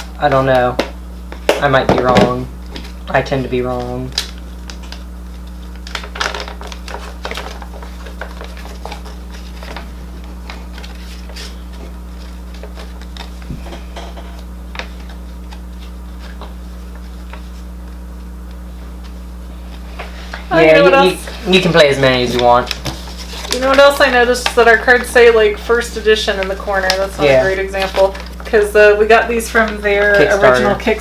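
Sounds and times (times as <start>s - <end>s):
low electrical hum: 0.0s - 31.0s
paper rustling: 2.7s - 28.7s.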